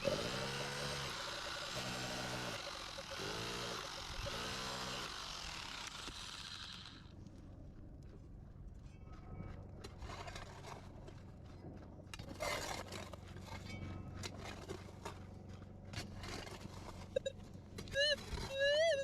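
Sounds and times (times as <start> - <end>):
digging in dirt and rock: 0.0 - 7.6, 9.4 - 19.0
steady low hum: 0.0 - 18.5.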